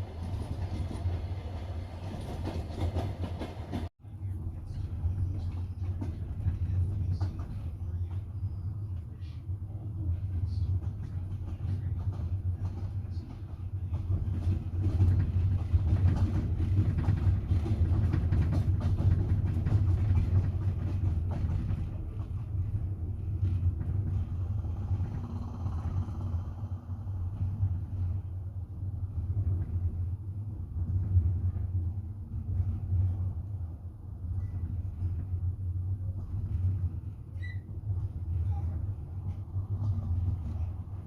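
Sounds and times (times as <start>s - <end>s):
train rumble inside carriage: 0.0s - 41.0s
wheels clicking on rails: 0.0s - 41.0s.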